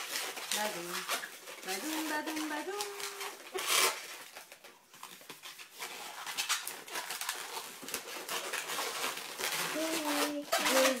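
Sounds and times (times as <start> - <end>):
balloon squeaking and rubbing: 0.0 - 4.7, 5.3 - 11.0.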